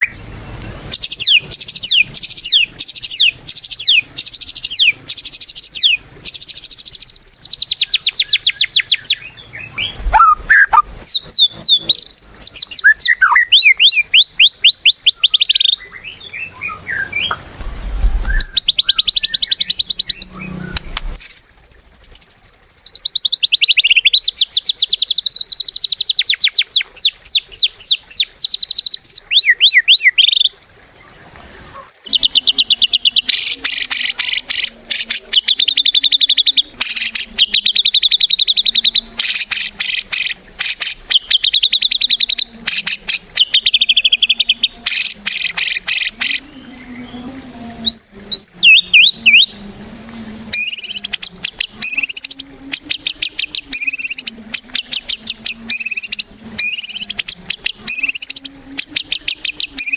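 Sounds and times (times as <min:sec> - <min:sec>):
songbird whistling and trilling: 0:00.0 - 0:17.4, 0:18.2 - 0:30.5, 0:32.1 - 0:47.2, 0:47.8 - 0:49.5, 0:50.6 - 0:59.9.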